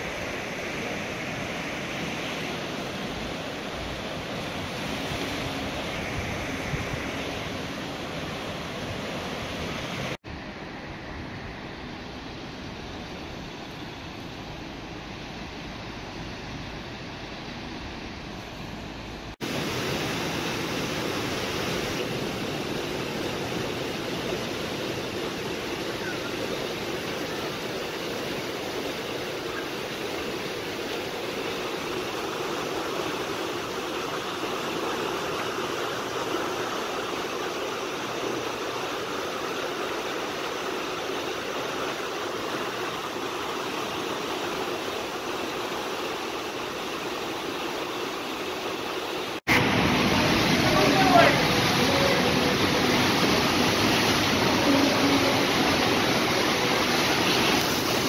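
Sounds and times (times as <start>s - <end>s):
river water rushing over weir: 0.0s - 58.0s.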